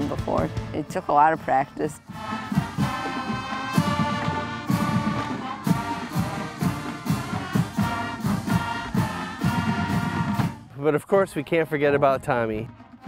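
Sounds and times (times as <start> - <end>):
steady drumbeat: 0.0 - 11.0
brass instruments sustained notes: 0.0 - 13.0.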